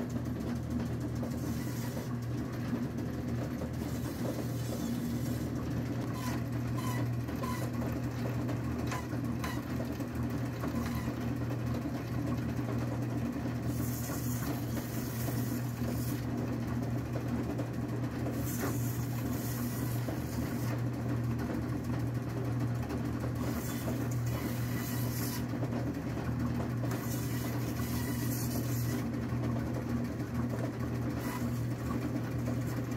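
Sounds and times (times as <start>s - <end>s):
band saw motor hum: 0.0s - 21.2s, 23.2s - 25.9s, 26.7s - 32.9s.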